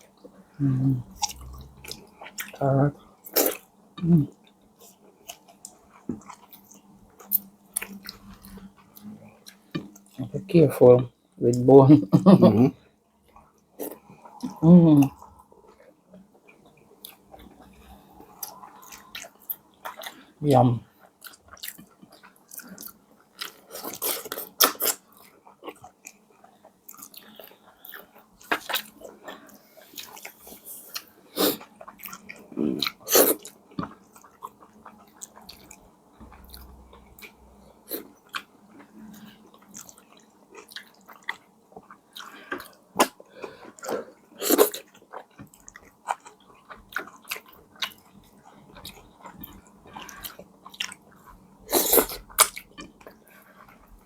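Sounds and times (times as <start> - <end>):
person chewing food: 0.1 - 10.2, 12.8 - 54.0.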